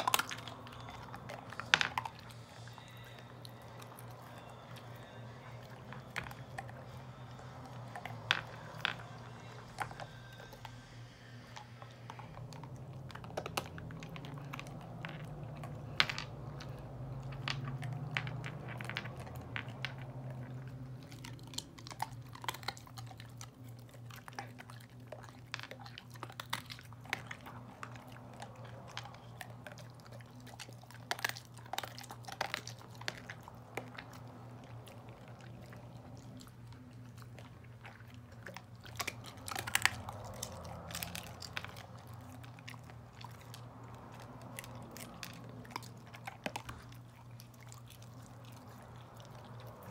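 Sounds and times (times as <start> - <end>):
teeth crunching hard candy: 0.0 - 49.9.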